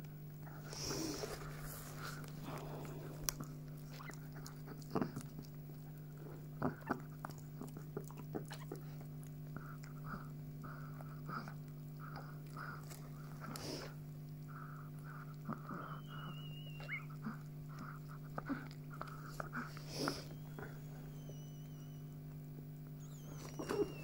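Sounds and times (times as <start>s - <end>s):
steady low hum: 0.0s - 24.0s
dog licking and chewing: 0.4s - 24.0s.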